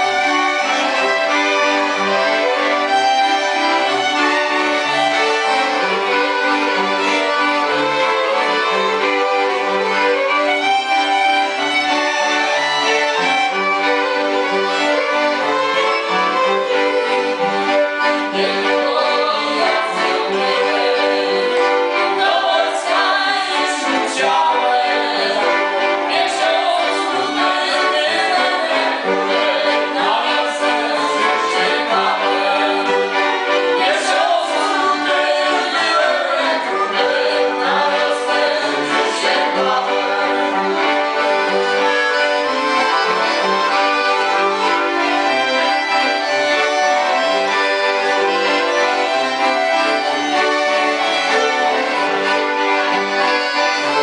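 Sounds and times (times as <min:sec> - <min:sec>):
accordion fiddles and cello playing: 0:00.0 - 0:54.0.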